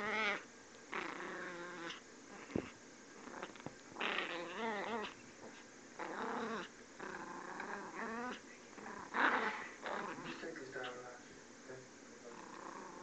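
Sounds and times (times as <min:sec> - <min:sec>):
puppy growling: 0:00.0 - 0:11.1, 0:12.3 - 0:13.0.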